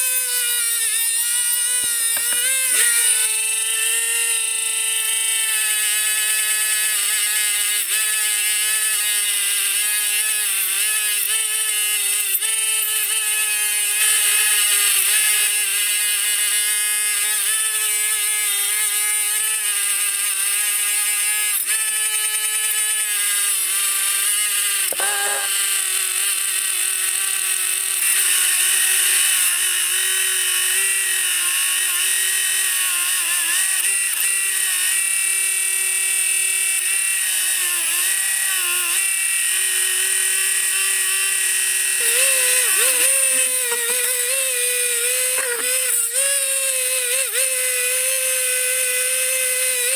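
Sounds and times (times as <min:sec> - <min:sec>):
electric power tool whirring: 0:00.0 - 0:49.9.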